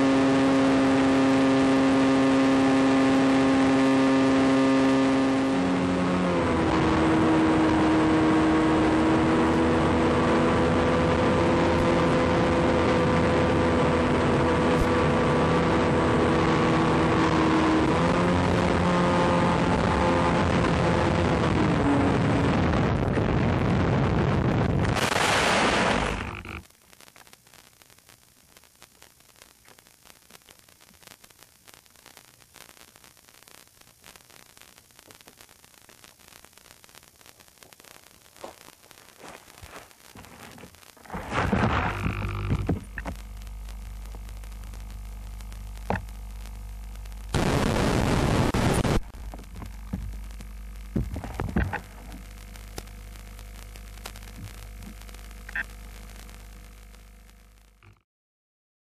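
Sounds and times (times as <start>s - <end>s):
steady hum: 0.0s - 58.0s
video link hiss and static: 0.0s - 58.0s.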